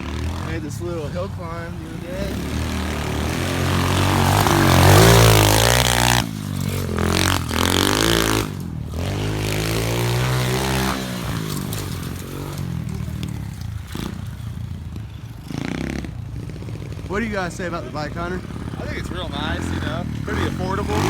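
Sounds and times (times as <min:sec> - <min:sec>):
motorbike engine revving hard: 0:00.0 - 0:21.0.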